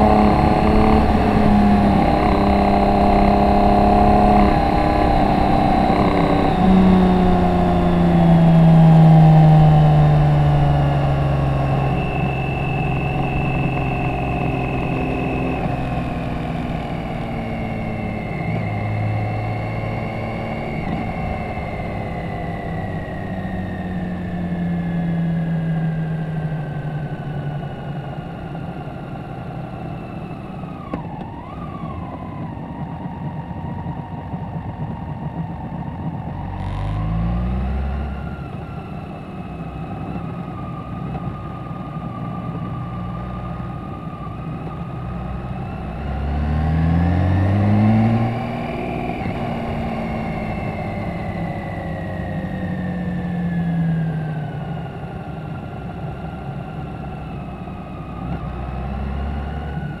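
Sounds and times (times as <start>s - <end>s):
motorcycle engine: 0.0s - 60.0s
wind and road noise: 0.0s - 60.0s.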